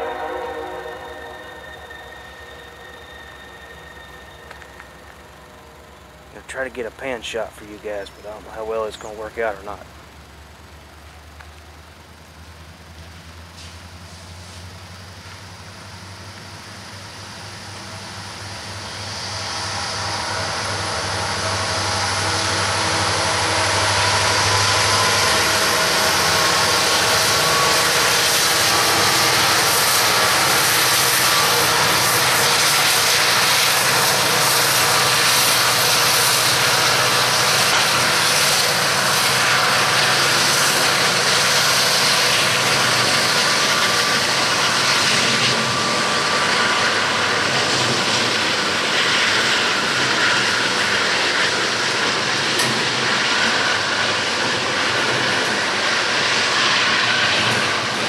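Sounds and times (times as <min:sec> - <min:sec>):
diesel locomotive engines: 0:00.0 - 0:58.0
train wheels rolling on rails: 0:00.0 - 0:58.0.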